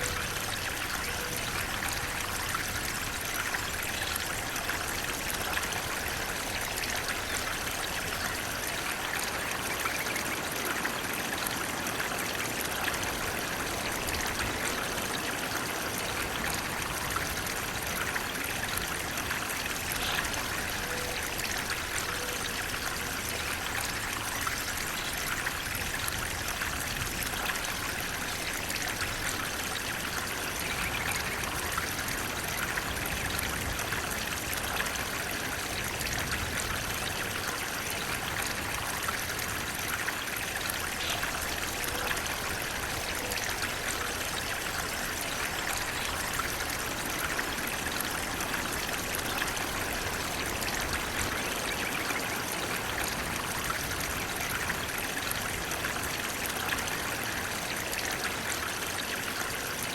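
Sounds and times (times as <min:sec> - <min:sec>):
water rushing and trickling: 0:00.0 - 0:59.9.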